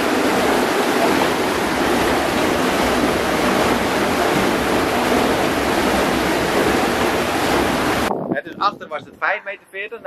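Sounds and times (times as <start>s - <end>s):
water rushing and churning: 0.0s - 8.1s.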